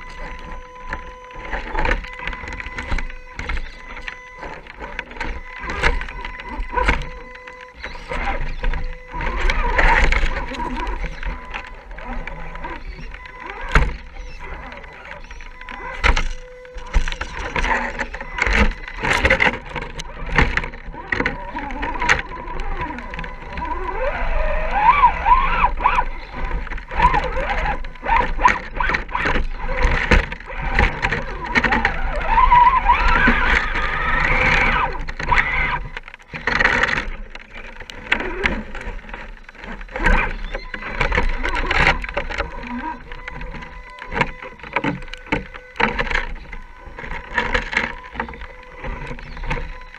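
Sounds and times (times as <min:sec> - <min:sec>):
toy truck clicks and knocks: 0:00.0 - 0:42.4
electric motor whining: 0:00.0 - 0:49.9.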